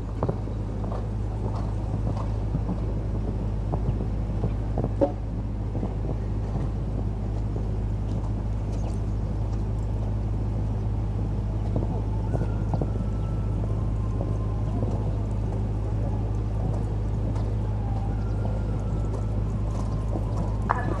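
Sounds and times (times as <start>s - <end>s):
horse hooves cantering on sand: 0.0s - 21.0s
steady low rumble: 0.0s - 21.0s.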